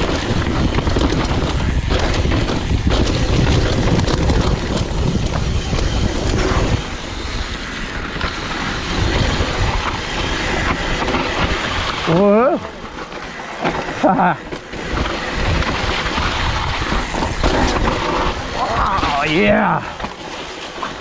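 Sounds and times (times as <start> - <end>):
bike rattles and knocks: 0.0 - 21.0
bike tyre noise: 0.0 - 21.0
wind rushing over microphone: 0.0 - 21.0.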